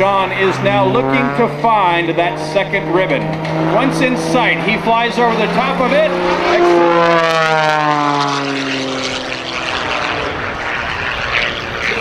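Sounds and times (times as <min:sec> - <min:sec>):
propeller plane passing: 0:00.0 - 0:12.0.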